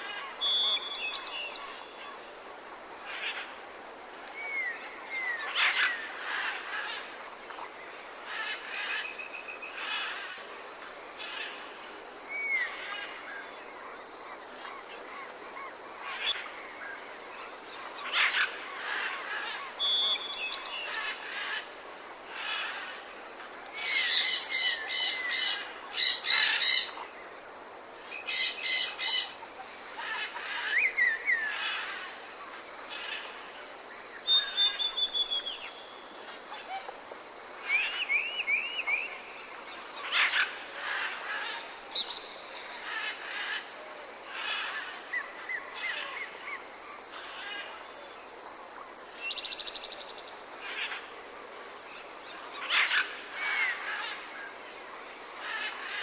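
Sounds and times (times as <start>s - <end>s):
background hiss: 0.0s - 56.0s.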